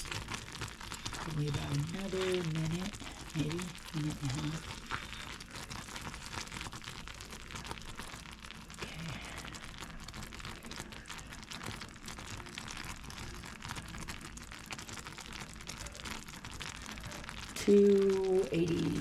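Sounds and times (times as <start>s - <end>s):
syrup boiling in a pan: 0.0s - 19.0s.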